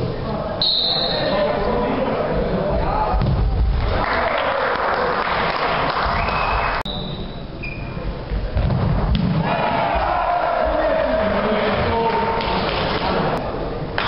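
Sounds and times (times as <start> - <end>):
sports hall crowd din: 0.0 - 14.0.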